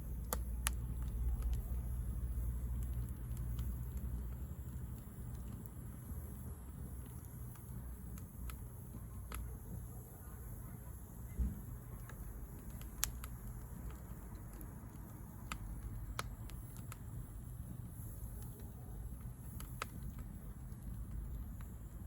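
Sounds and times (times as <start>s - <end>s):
firewood crackling and popping: 0.0s - 22.0s
low steady rumble: 0.0s - 22.0s.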